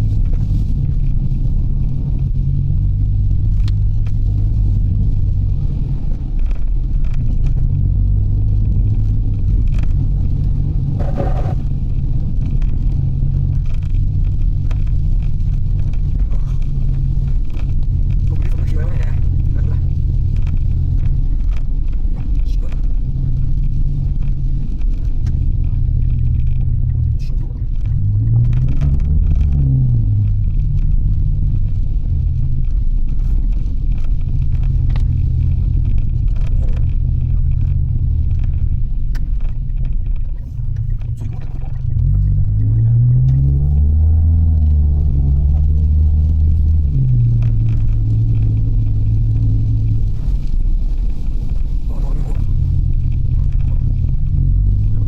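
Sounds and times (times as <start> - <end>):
road rumble: 0.0 - 55.0
vehicle engine hum: 0.0 - 55.0.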